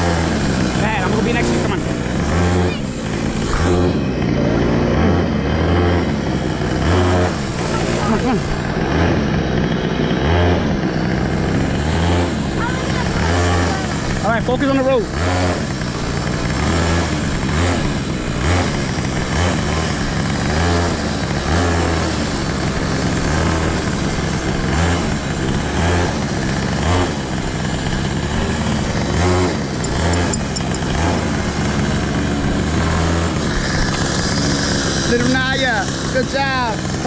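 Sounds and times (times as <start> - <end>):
small gasoline engine running: 0.0 - 37.0.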